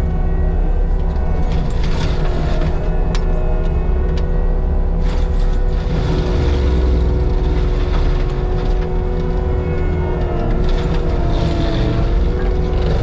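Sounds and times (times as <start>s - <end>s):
heavy diesel machinery running: 0.0s - 13.0s
steady machine whine: 0.0s - 13.0s.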